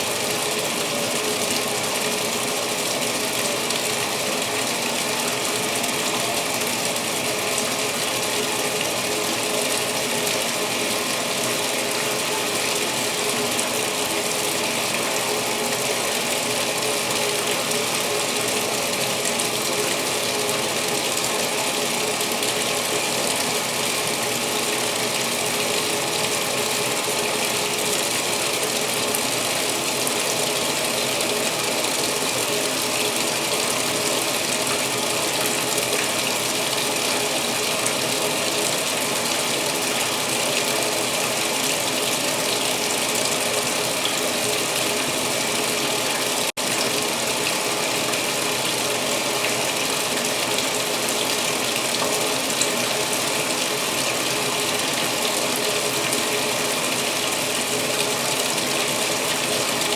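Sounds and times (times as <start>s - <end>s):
water pouring into washer tub: 0.0s - 59.9s.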